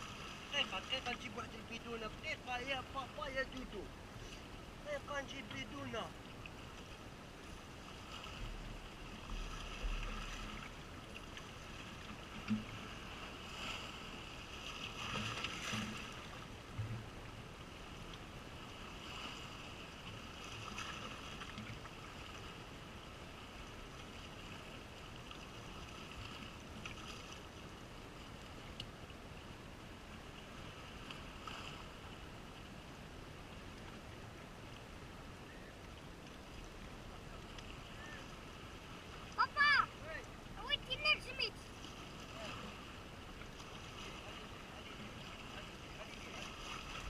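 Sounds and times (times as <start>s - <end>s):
water lapping at shore: 0.0s - 47.0s.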